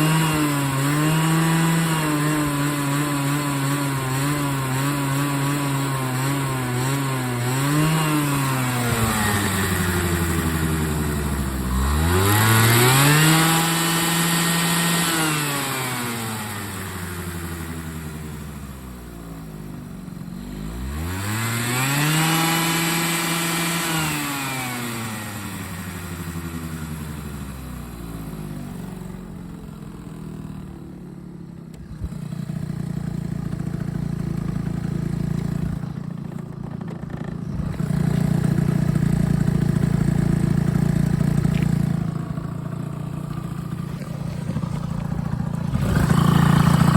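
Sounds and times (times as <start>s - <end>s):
engine idling and revving: 0.0s - 46.9s.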